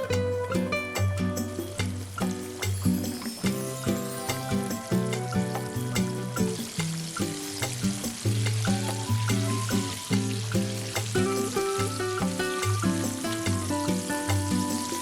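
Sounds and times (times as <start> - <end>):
background music with beat: 0.0 - 15.0
chicken frying in oil: 2.2 - 15.0.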